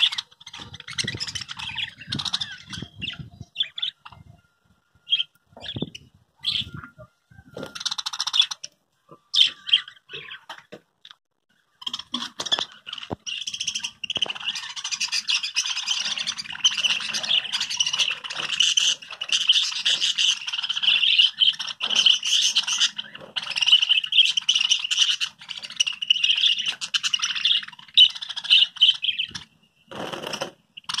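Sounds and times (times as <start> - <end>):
budgerigars chattering and warbling: 0.0 - 4.4, 5.1 - 31.0.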